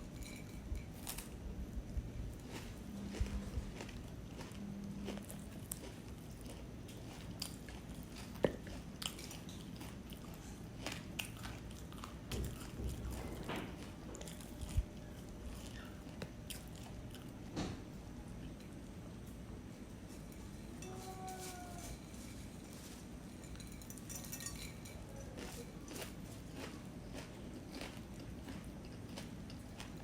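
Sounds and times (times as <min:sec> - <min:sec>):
person chewing crunchy food: 0:00.1 - 0:17.5, 0:22.4 - 0:30.0.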